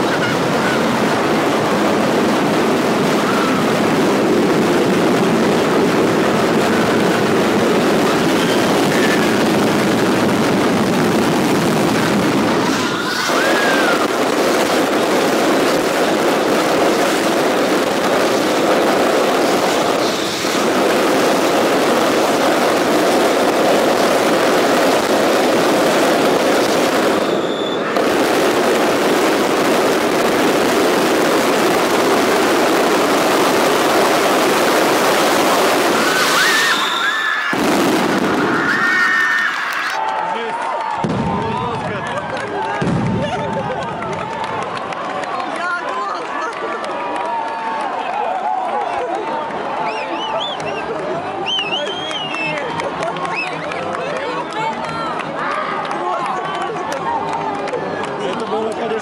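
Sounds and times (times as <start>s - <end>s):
rattle of firecrackers: 0.0s - 59.0s.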